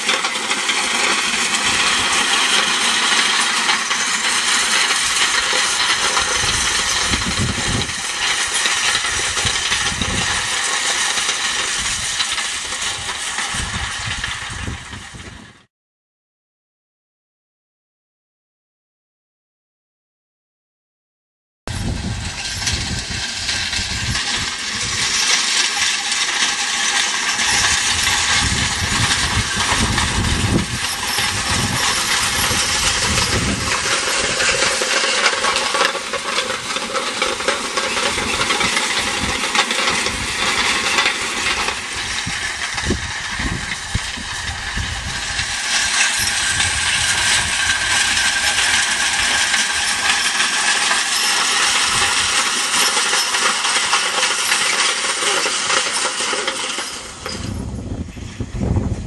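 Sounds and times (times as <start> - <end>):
hay rake metallic rattling: 0.0 - 15.3, 21.7 - 59.0.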